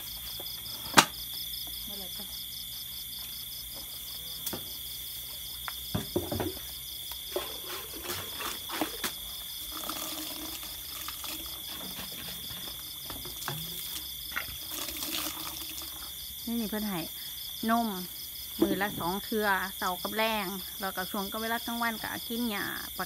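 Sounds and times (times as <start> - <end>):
crickets trilling: 0.0 - 23.0
fast pulsing insect trill: 1.1 - 23.0.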